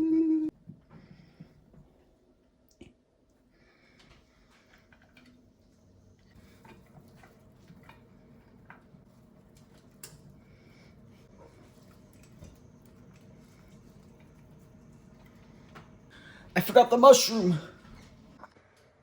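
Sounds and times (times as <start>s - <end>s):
low steady hum: 0.0s - 18.5s.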